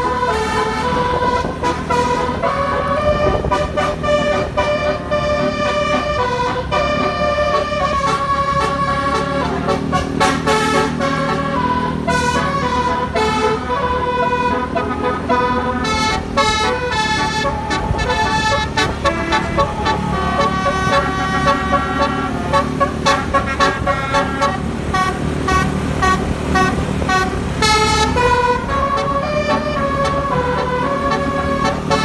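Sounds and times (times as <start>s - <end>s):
multi-tone bus horn playing tune: 0.0s - 32.0s
steady low rumble: 0.0s - 32.0s.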